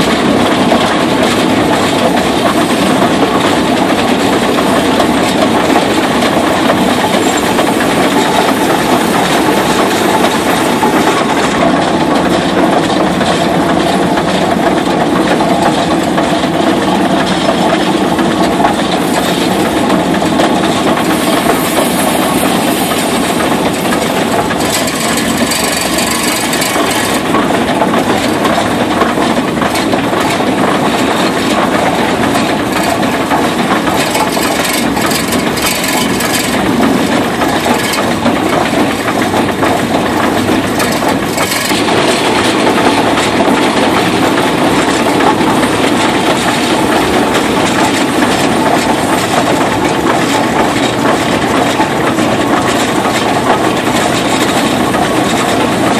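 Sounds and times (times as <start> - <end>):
steam traction engine running: 0.0 - 55.9.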